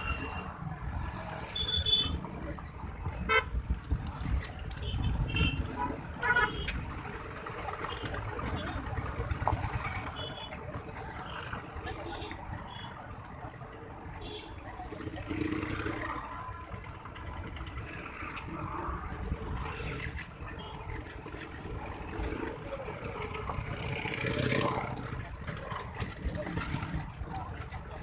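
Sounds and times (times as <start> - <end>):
motorbikes and cars passing: 0.0 - 28.0
light rattling clicks: 1.5 - 28.0.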